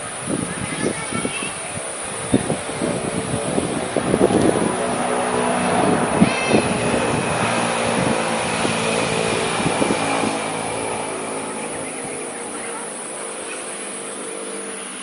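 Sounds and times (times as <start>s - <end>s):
thin high whine: 0.0s - 15.0s
vehicle engine passing: 0.0s - 15.0s.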